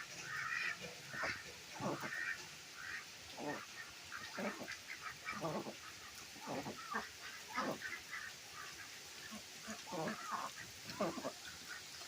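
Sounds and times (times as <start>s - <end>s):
ducks quacking: 0.0s - 12.0s
rain falling: 0.0s - 12.0s.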